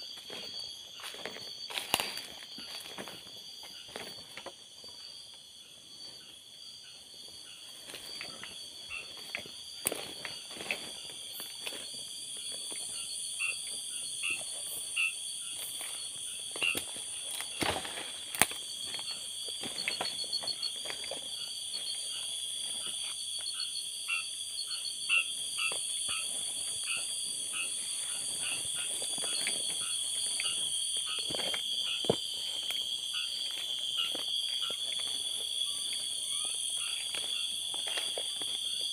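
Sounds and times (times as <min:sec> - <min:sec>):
footsteps through undergrowth: 0:00.0 - 0:06.1, 0:07.1 - 0:23.6, 0:25.2 - 0:38.9
frogs calling: 0:00.0 - 0:38.9
insects trilling: 0:00.0 - 0:38.9.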